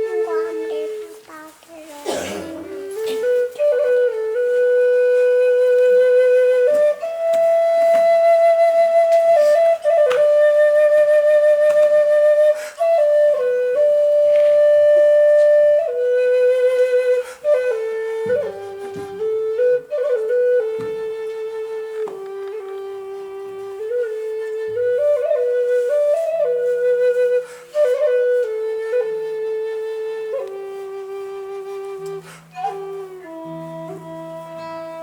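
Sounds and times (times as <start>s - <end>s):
solo flute melody: 0.0s - 35.0s.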